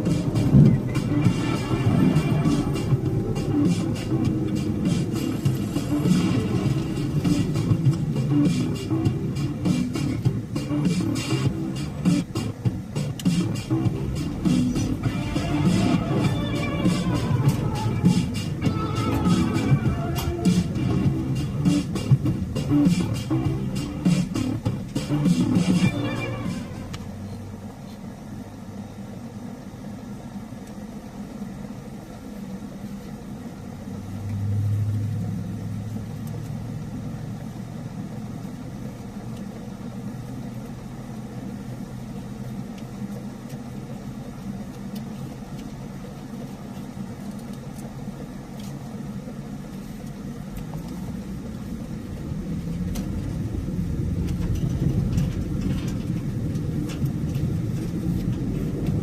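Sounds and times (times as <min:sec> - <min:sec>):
road and tyre noise: 0:00.0 - 0:59.0
vehicle engine hum: 0:00.0 - 0:59.0.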